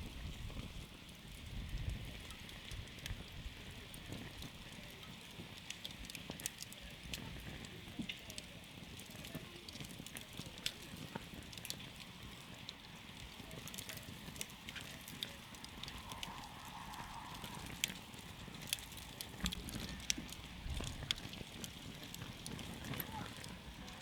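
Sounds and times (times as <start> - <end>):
campfire burning with crackles: 0.0 - 24.0.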